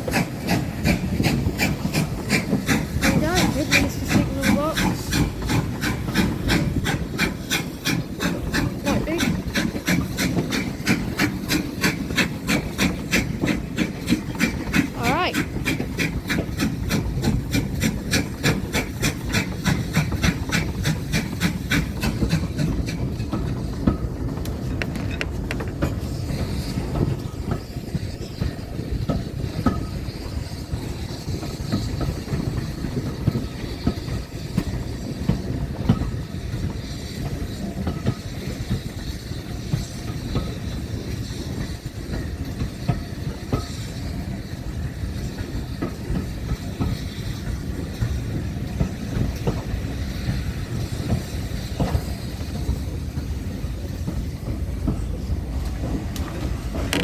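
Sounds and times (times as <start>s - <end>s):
train rumbling along track: 0.0s - 57.0s.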